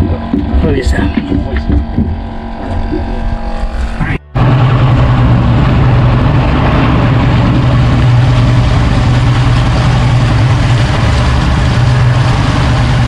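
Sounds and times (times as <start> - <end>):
boat wake rushing: 0.0 - 13.0
outboard motor droning: 0.0 - 13.0.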